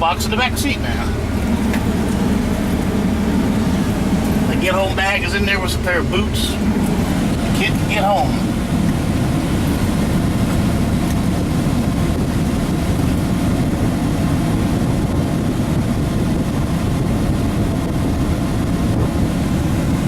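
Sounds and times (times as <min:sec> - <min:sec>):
truck engine rumble inside cab: 0:00.0 - 0:20.0.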